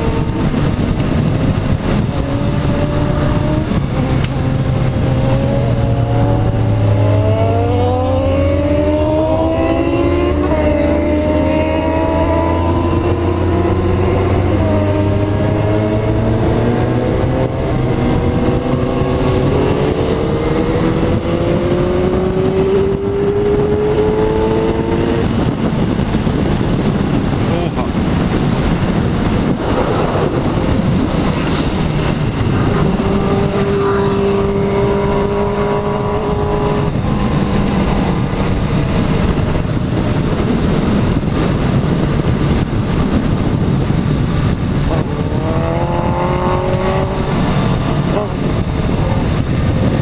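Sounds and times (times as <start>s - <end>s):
motorcycle engine accelerating: 0.0s - 50.0s
wind rushing on microphone: 0.0s - 50.0s.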